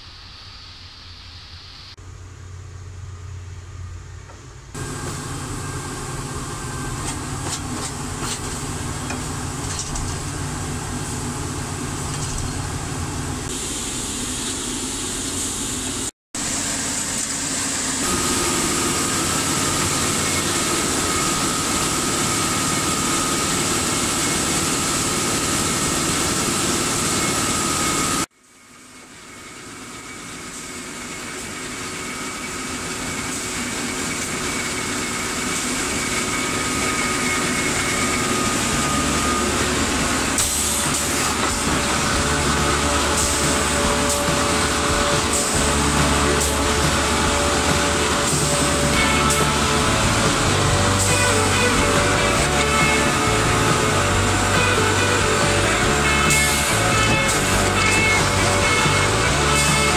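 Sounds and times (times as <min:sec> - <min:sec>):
high whine: 0:00.0 - 0:59.9
machine engine drone: 0:00.0 - 0:59.9.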